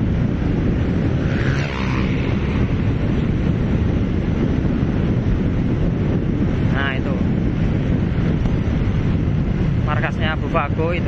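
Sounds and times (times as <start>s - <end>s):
motorbike passing: 0.0s - 10.4s
wind buffeting microphone: 0.0s - 11.0s.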